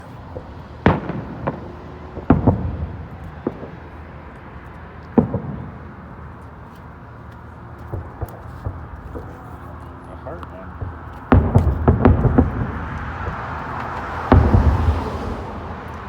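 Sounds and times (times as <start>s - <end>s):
fireworks bangs with echoes: 0.0s - 6.6s, 7.8s - 9.6s, 10.2s - 16.0s
faint fireworks pops: 0.0s - 16.0s.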